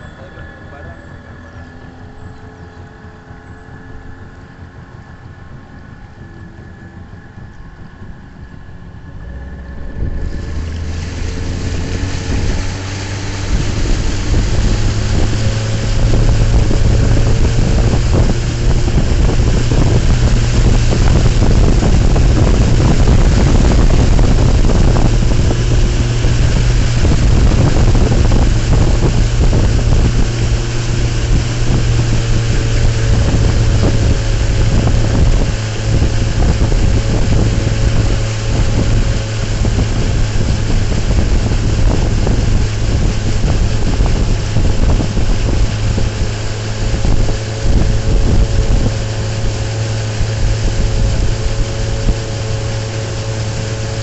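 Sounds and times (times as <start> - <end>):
outboard motor droning: 0.0 - 54.0
wind on microphone: 0.0 - 54.0
rushing water: 9.1 - 54.0.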